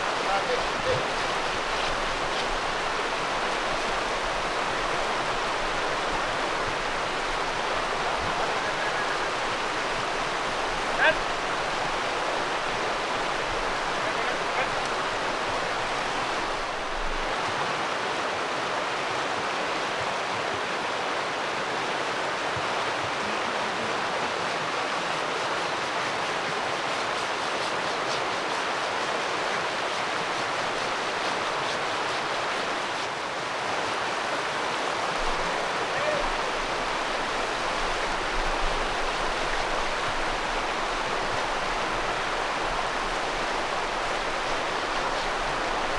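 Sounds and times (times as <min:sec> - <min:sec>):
river water rushing over gravel: 0:00.0 - 0:45.9.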